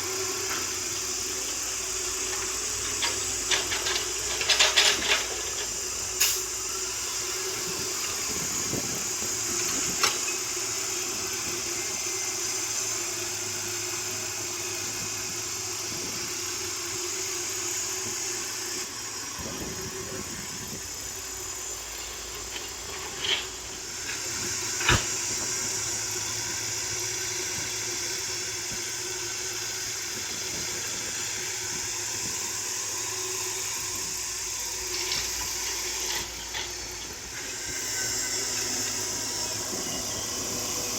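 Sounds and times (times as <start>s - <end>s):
excavator engine humming: 0.0s - 40.9s
hydraulic hiss: 0.0s - 40.9s.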